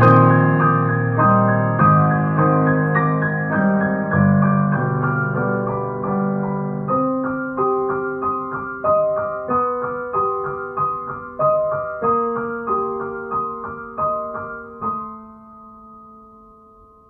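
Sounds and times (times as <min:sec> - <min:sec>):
upright piano slow melody: 0:00.0 - 0:17.0.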